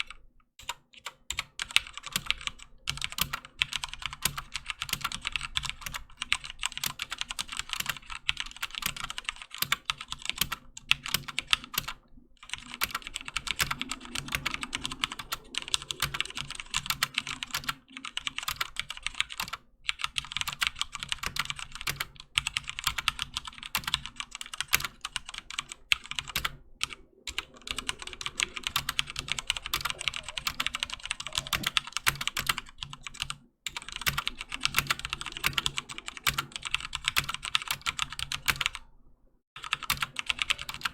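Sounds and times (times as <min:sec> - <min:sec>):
mechanical keyboard typing: 0:00.0 - 0:38.8, 0:39.6 - 0:40.9.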